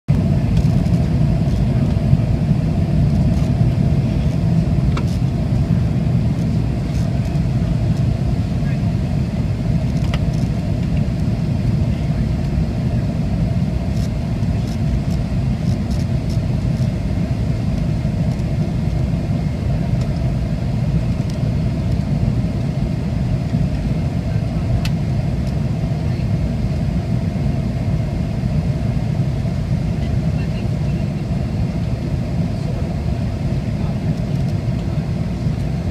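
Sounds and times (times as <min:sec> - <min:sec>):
airliner cabin rumble: 0:00.1 - 0:35.9.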